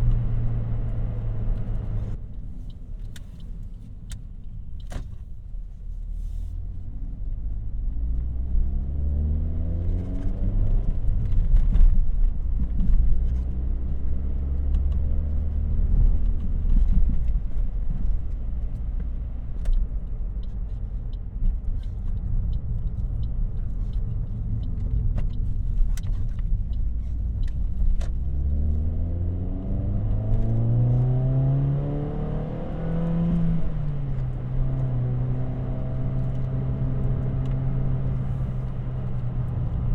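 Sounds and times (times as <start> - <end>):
car engine droning and revving: 0.0 - 2.3, 6.8 - 39.9.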